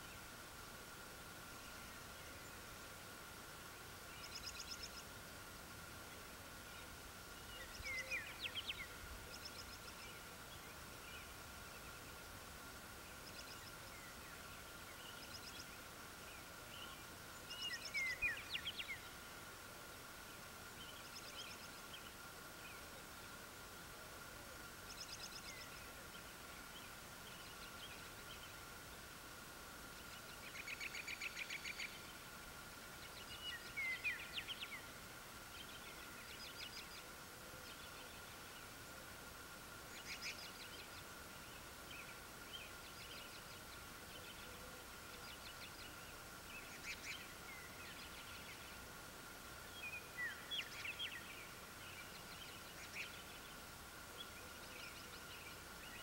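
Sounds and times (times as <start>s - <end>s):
faint high hum: 0.0s - 56.0s.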